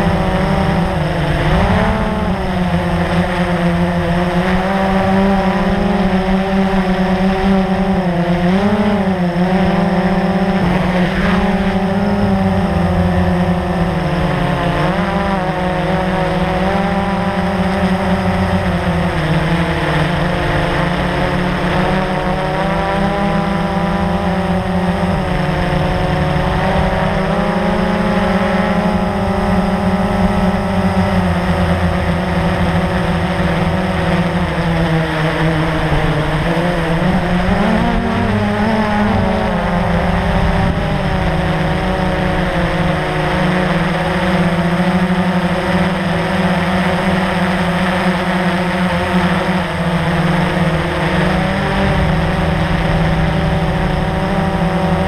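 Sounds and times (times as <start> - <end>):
quadcopter motors buzzing: 0.0 - 55.0.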